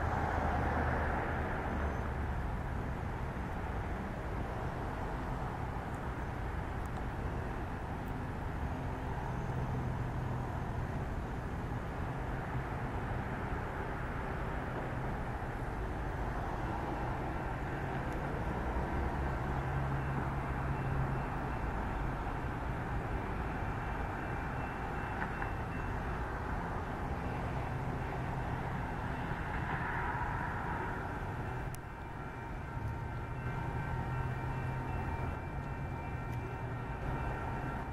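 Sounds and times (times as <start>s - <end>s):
diesel locomotive drone: 0.0s - 37.9s
rail noise: 0.0s - 37.9s.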